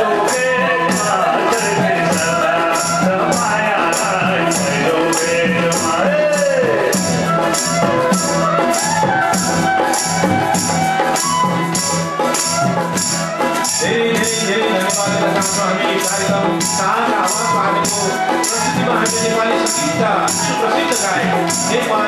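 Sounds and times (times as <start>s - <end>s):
harmonium: 0.0s - 22.0s
jingling percussion beat: 0.0s - 22.0s
bamboo flutes playing melody: 0.3s - 13.9s, 16.4s - 21.8s.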